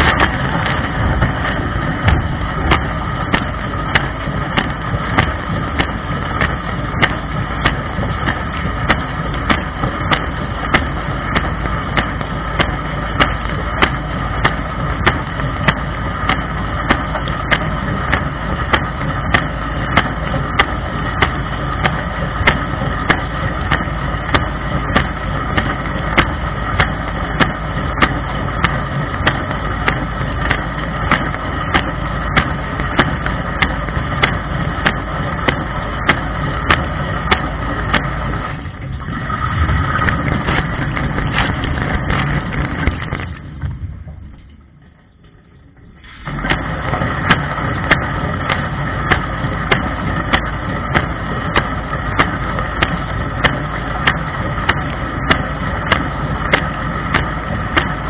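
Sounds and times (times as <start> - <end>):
dishwasher pump running: 0.0 - 58.0
water rushing: 0.0 - 58.0
water spraying from spray arm: 0.0 - 58.0.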